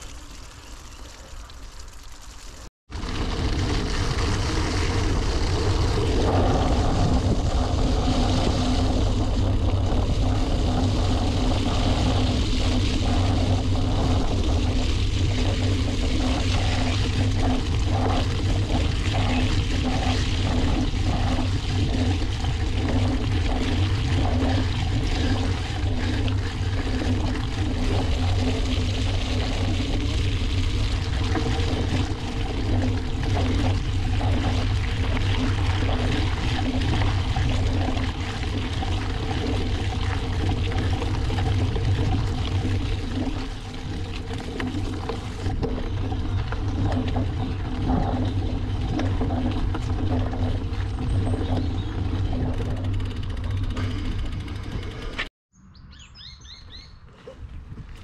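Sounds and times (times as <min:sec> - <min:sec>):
wind and trail rumble: 0:02.9 - 0:55.3, 0:56.6 - 0:58.0.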